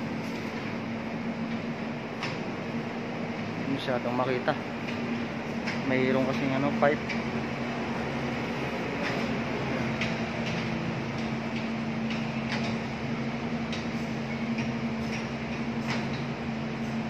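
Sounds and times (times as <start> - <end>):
air-handling unit droning: 0.0 - 17.0.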